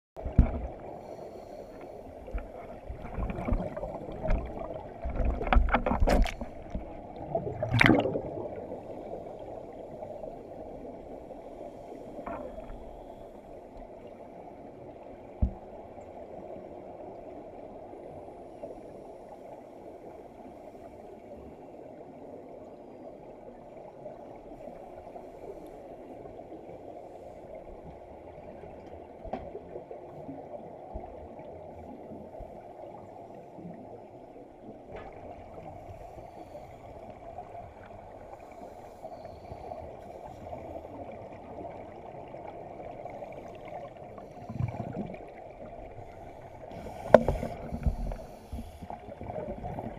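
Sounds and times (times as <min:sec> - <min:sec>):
underwater bubbles gurgling: 0:00.2 - 0:49.9.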